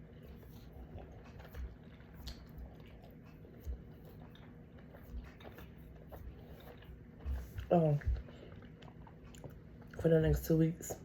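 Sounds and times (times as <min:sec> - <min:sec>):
person chewing food: 0:00.0 - 0:10.2.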